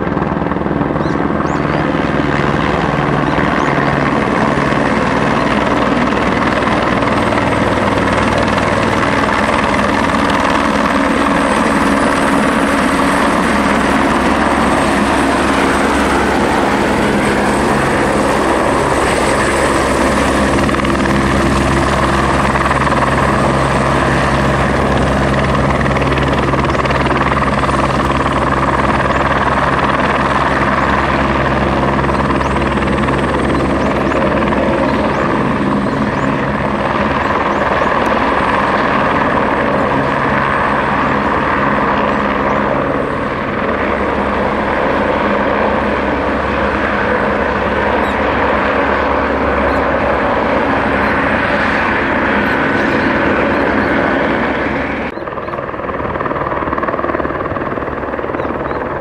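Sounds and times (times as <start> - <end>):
helicopter rotor drone: 0.0 - 59.0
high turbine whine: 0.0 - 59.0.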